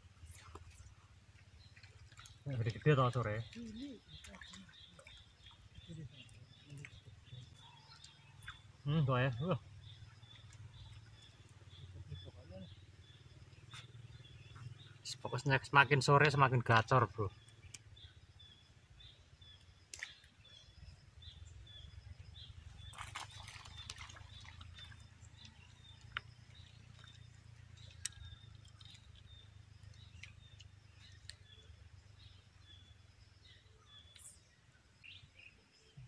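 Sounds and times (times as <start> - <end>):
faint bird chirps: 0.2 - 36.0.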